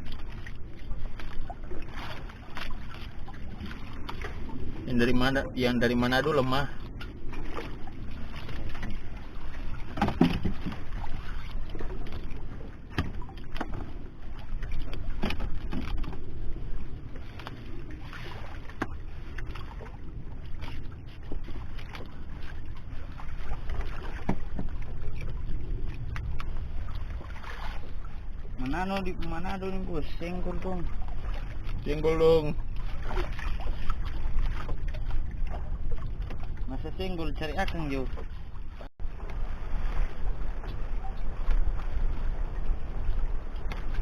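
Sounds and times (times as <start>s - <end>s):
low rumble of wind and water: 0.0s - 44.0s.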